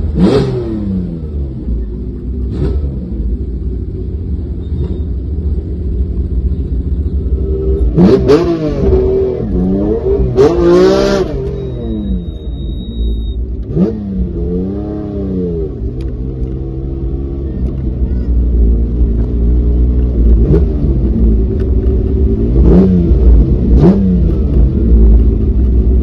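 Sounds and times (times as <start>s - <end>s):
car engine throttle blips: 0.0s - 26.0s.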